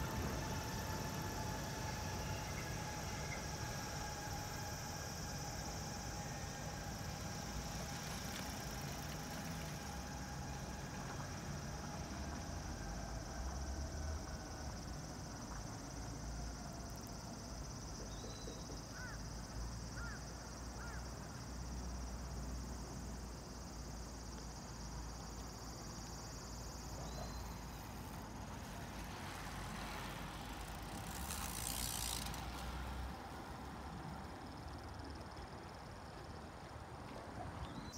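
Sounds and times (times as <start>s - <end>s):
distant train on elevated track: 0.0s - 21.3s, 22.0s - 37.9s.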